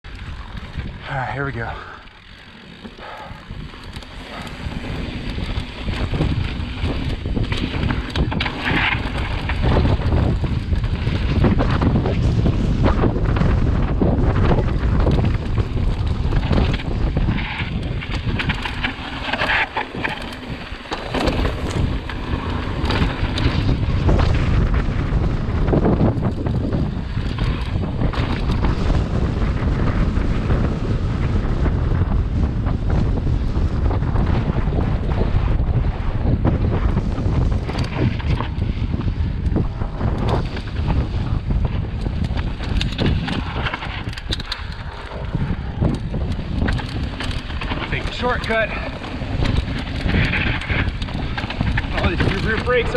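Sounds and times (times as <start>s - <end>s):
bike clicks and rattles: 0.0s - 52.9s
tyres on loose dirt: 0.0s - 52.9s
wind rushing over microphone: 0.0s - 52.9s.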